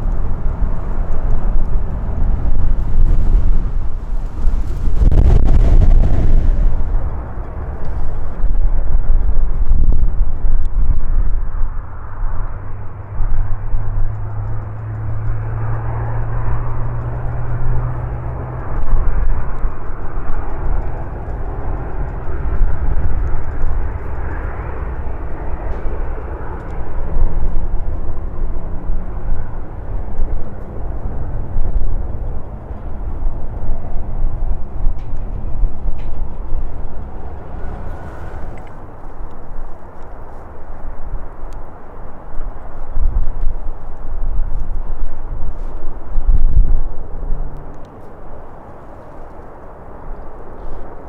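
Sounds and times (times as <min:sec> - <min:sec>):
jet airliner engines rumbling: 0:00.0 - 0:51.0
wind buffeting microphone: 0:00.0 - 0:51.0.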